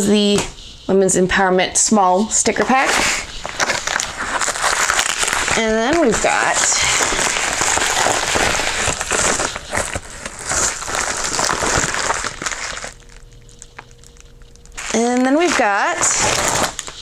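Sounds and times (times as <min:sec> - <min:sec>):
plastic mailer crinkling: 0:02.7 - 0:17.0.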